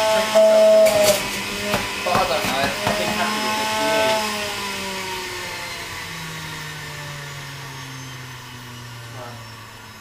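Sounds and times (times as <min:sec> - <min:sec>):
juicer motor winding down: 0:00.0 - 0:10.0.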